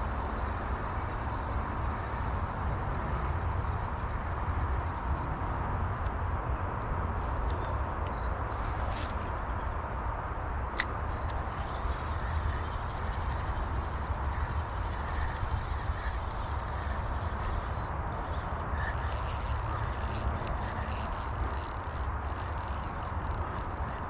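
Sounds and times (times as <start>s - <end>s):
wind buffeting microphone: 0.0s - 24.0s
small birds chirping: 0.1s - 5.3s, 7.5s - 24.0s.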